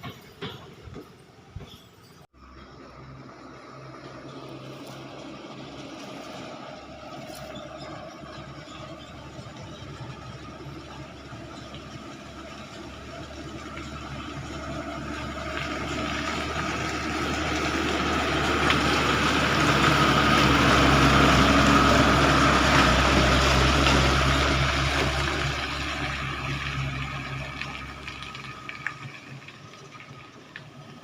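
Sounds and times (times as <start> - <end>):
diesel truck engine pulling: 0.0 - 31.0.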